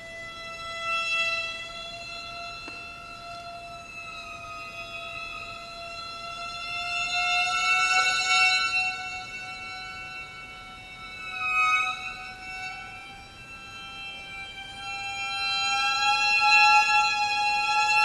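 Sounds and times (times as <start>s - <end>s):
violin bowed note sliding upward: 0.0s - 18.0s.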